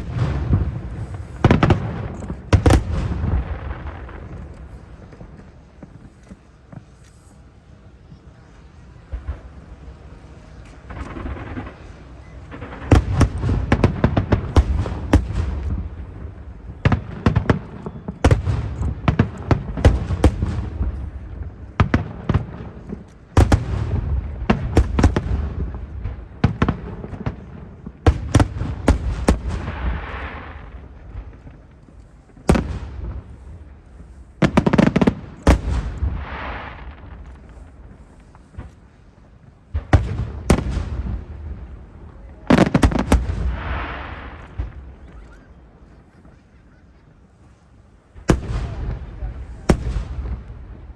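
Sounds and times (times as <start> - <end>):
fireworks bursting with bangs: 0.0 - 50.9
fireworks crackling: 0.0 - 50.9.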